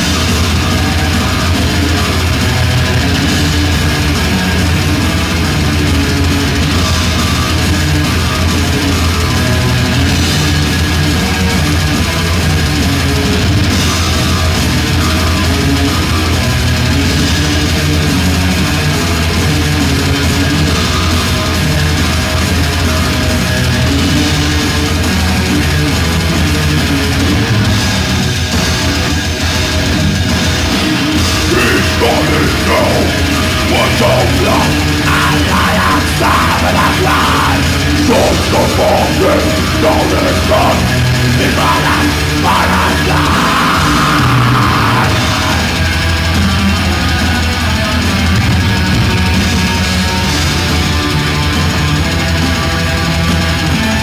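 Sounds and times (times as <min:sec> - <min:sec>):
metal band playing live: 0:00.0 - 0:54.0.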